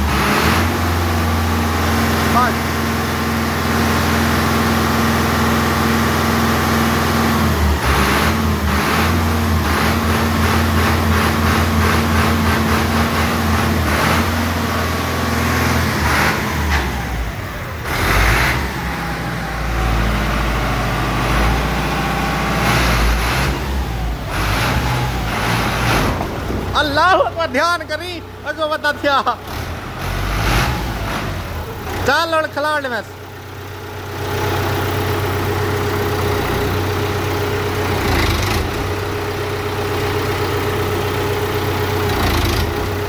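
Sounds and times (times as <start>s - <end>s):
tractor diesel engine: 0.0s - 43.0s.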